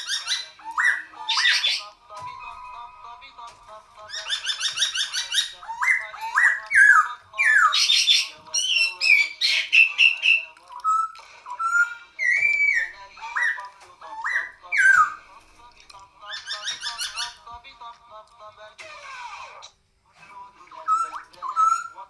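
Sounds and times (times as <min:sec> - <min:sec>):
songbird singing: 0:00.0 - 0:17.7, 0:20.8 - 0:22.0.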